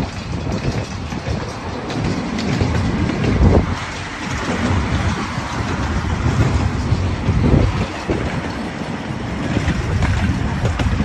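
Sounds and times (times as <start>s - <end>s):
faint wheel clicking: 0.0s - 11.0s
small train rumbling along track: 0.0s - 11.0s.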